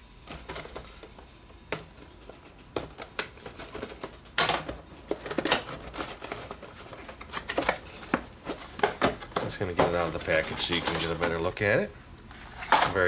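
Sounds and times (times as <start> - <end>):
plastic packaging crinkling: 0.3 - 11.6.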